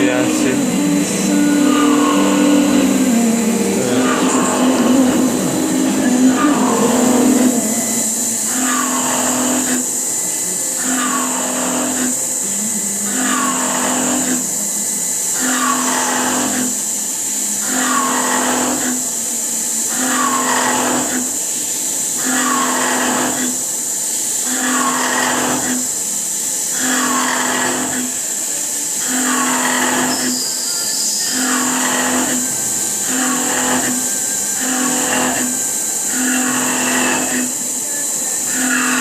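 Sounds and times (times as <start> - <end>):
cnc milling machine cutting metal: 0.0 - 39.0.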